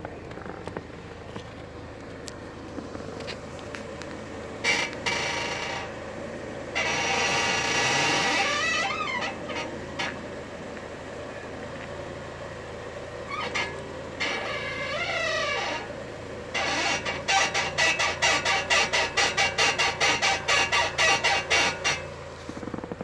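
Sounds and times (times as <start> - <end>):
car engine idling: 0.0 - 23.0
suspension squeaking: 0.0 - 23.0.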